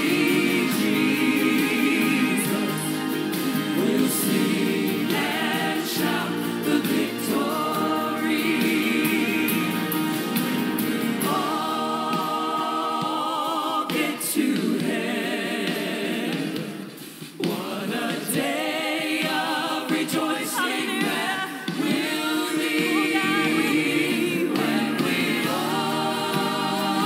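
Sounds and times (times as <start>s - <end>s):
solo singers on microphones: 0.0s - 10.2s, 10.8s - 27.0s
choir singing a hymn: 0.0s - 27.0s.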